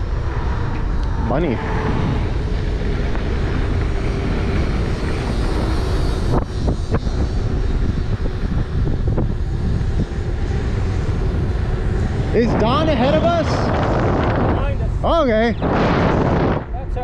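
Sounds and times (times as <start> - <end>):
tyre and motor noise: 0.0 - 17.0
wind on microphone: 0.0 - 17.0.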